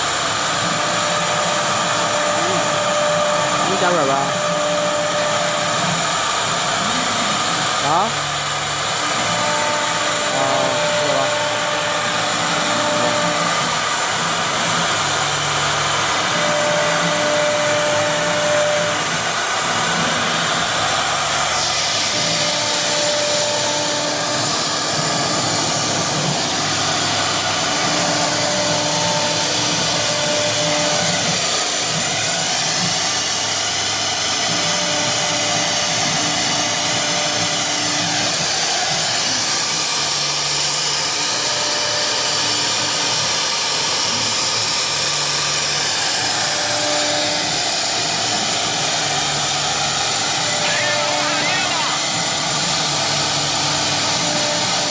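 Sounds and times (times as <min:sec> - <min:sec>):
motor tones: 0:00.0 - 0:43.0, 0:46.1 - 0:54.9
router spindle rushing noise: 0:00.0 - 0:54.9.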